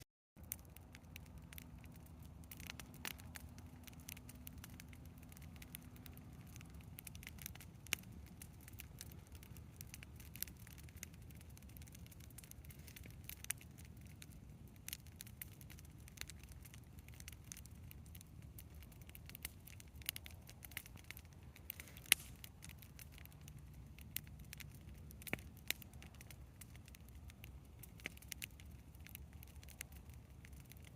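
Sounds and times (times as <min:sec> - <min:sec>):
bonfire crackling: 0:00.4 - 0:30.9.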